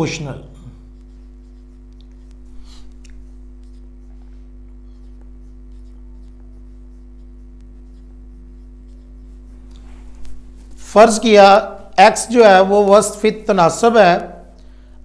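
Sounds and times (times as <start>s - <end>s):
electrical hum: 0.0s - 15.0s
marker scratching on whiteboard: 0.8s - 14.4s.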